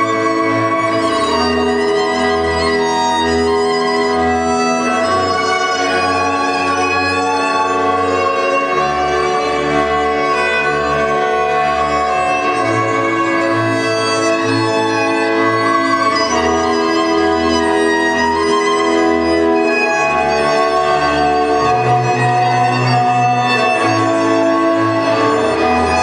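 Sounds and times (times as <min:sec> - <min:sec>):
fiddle: 0:00.0 - 0:26.0
viola accompaniment: 0:00.0 - 0:26.0.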